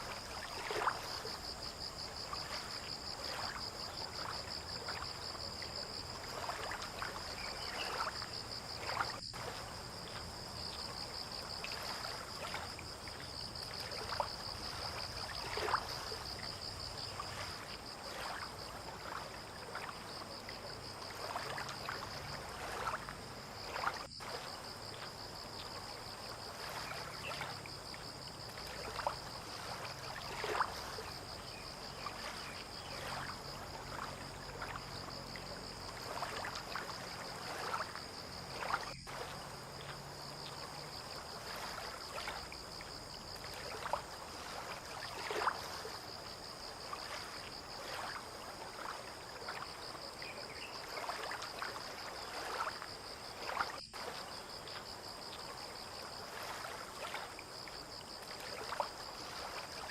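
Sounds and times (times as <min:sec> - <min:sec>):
water lapping against boats: 0:00.0 - 0:59.9.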